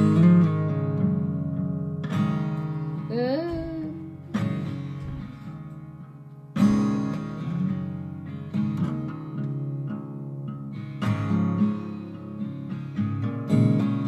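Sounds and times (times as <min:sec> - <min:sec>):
guitar strumming slow chords: 0:00.0 - 0:14.0.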